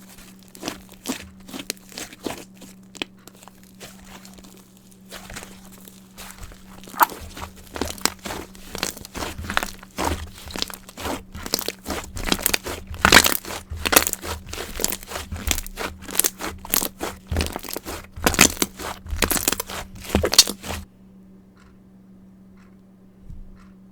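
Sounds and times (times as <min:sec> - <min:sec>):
slime crackling and popping: 0:00.0 - 0:20.8.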